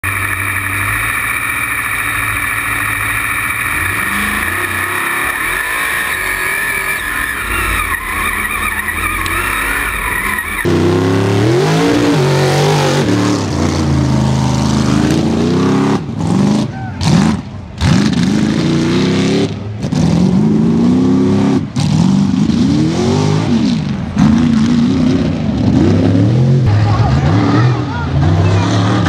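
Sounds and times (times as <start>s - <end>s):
race truck engine revving: 0.0s - 29.0s.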